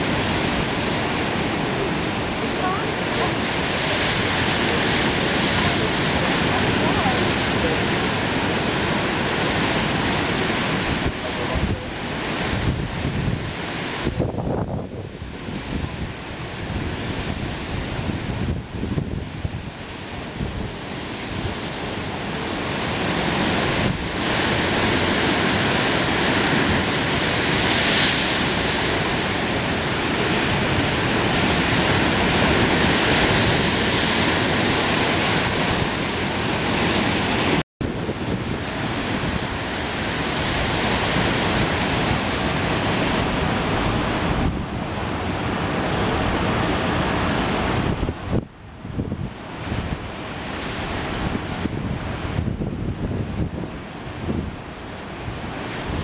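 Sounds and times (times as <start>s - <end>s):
ocean surf: 0.0s - 56.0s
wind buffeting microphone: 0.0s - 56.0s.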